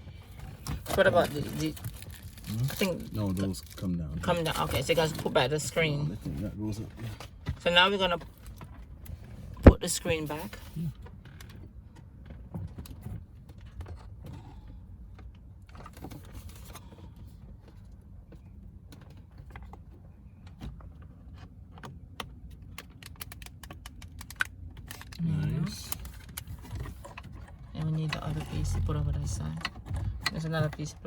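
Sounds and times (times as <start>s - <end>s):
low steady rumble: 0.0s - 21.5s, 24.6s - 31.0s.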